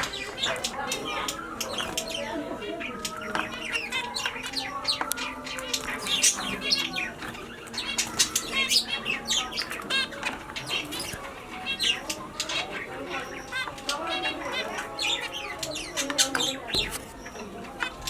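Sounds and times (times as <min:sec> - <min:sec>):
finches chirping: 0:00.0 - 0:18.0.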